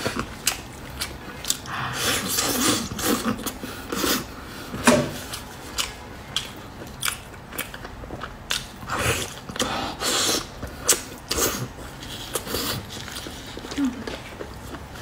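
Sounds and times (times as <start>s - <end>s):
person chewing meat: 0.0s - 15.0s.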